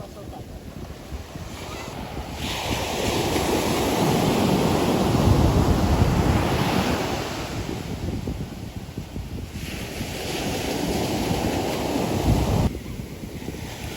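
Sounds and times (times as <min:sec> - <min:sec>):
sea waves breaking: 0:00.0 - 0:12.7
wind buffeting microphone: 0:00.0 - 0:13.9.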